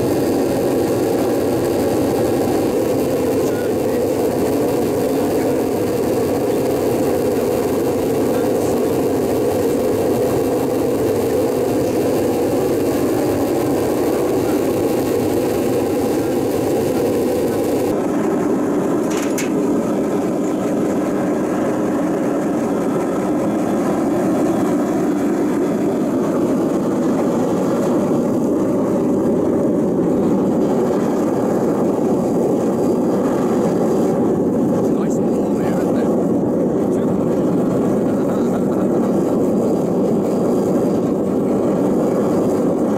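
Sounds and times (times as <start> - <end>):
gas furnace burner rushing: 0.0 - 42.9.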